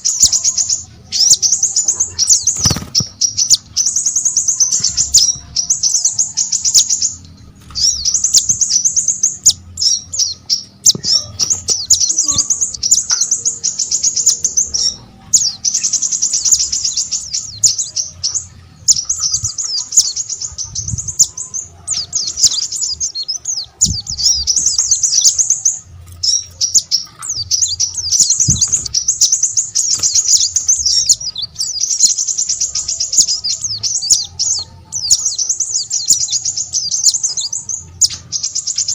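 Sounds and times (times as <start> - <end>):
songbird twittering: 0.0 - 38.9.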